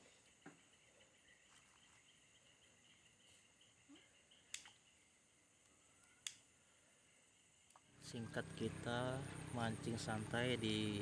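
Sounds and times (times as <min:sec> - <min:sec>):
faint insect chirring: 0:00.0 - 0:11.0.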